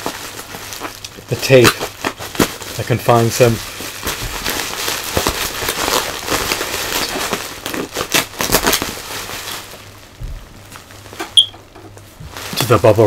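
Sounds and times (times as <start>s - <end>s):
bubble wrap crinkling and crackling: 0.0s - 13.0s.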